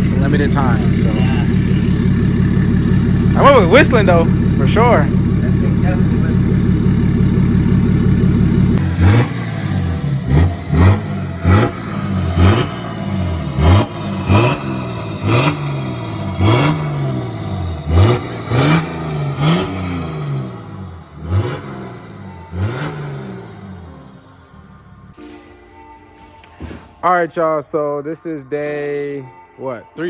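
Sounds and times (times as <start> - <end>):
diesel engine revving: 0.0 - 25.2
turbo whistle: 0.0 - 26.6.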